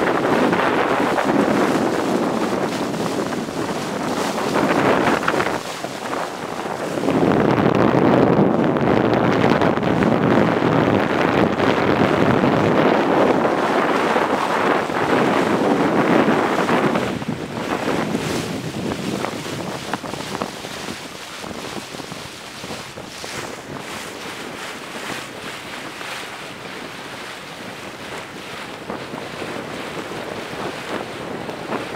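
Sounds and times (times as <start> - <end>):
water rushing: 0.0 - 31.9
wind buffeting microphone: 0.0 - 31.9.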